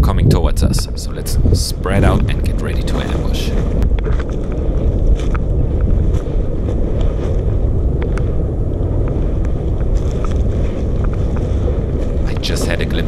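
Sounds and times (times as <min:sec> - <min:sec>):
wind buffeting microphone: 0:00.0 - 0:13.0
rustles in dry grass: 0:01.8 - 0:13.0.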